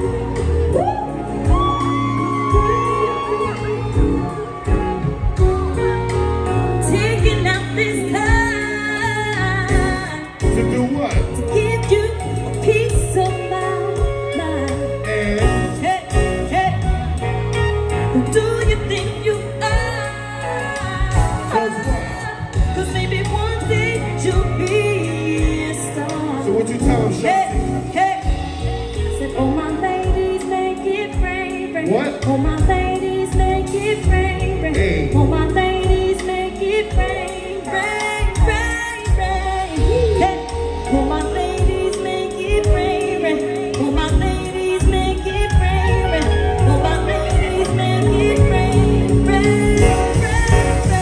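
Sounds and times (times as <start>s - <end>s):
backing track with bass and drums: 0.0s - 51.0s
woman singing: 0.0s - 51.0s.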